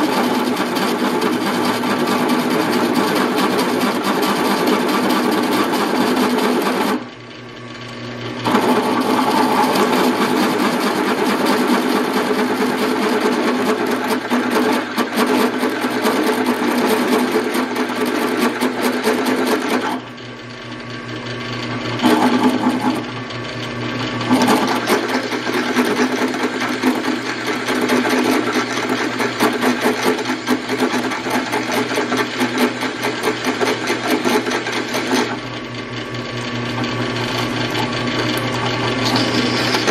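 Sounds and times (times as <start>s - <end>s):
drill bit grinding steel: 0.0s - 7.3s, 8.4s - 20.2s, 21.6s - 39.9s
drill press motor hum: 0.0s - 39.9s.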